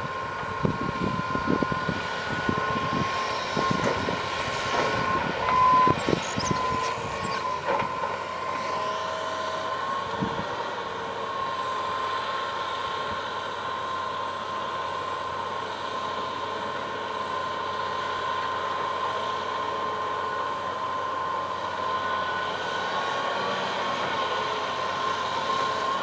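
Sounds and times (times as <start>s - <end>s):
excavator engine running: 0.0s - 26.0s
hydraulic whine: 0.0s - 26.0s.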